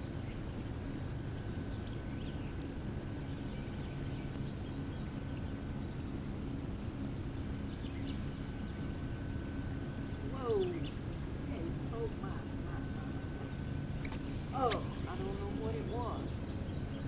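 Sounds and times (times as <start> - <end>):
river low rumble: 0.0 - 17.0.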